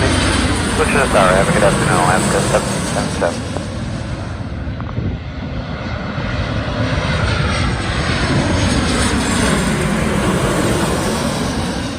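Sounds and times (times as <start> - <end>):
jet airliner engine roar: 0.0 - 11.9
jet engine whine: 0.0 - 11.9.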